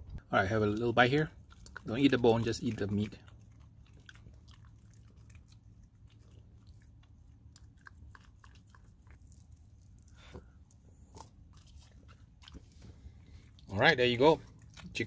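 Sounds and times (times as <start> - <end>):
dog licking and chewing: 0.6 - 15.0.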